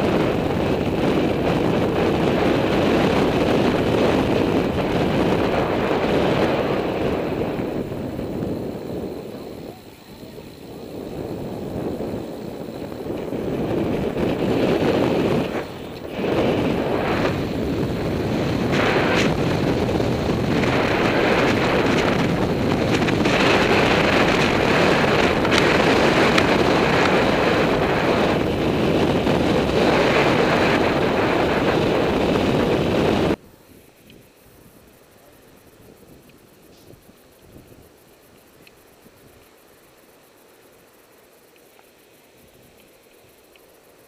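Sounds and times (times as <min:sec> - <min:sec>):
wind roaring over microphone: 0:00.0 - 0:39.6.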